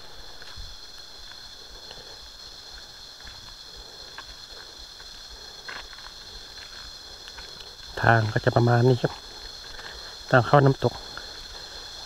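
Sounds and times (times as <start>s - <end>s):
footsteps on dirt trail: 0.0s - 12.0s
high-pitched insect drone: 0.0s - 12.0s.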